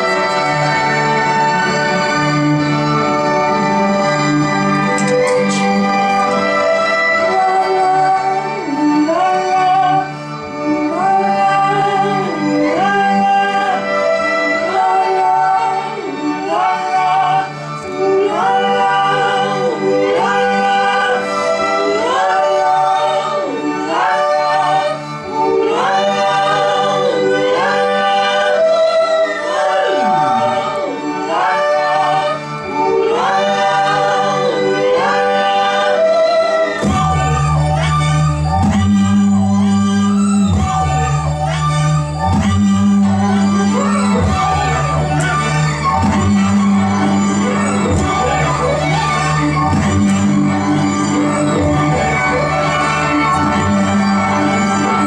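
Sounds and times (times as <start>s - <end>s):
layered voices singing: 0.0s - 55.0s.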